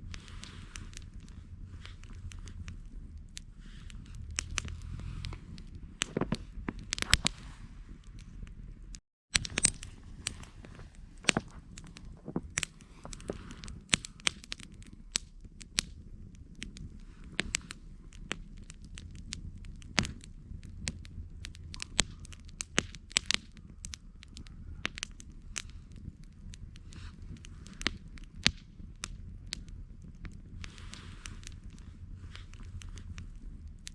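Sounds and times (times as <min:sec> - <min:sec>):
campfire crackling and popping: 0:00.0 - 0:33.9
low steady rumble: 0:00.0 - 0:33.9.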